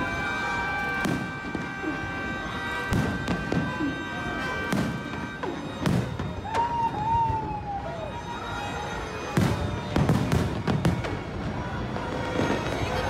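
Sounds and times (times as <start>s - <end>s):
fireworks bangs: 0.0s - 7.6s, 9.0s - 13.0s.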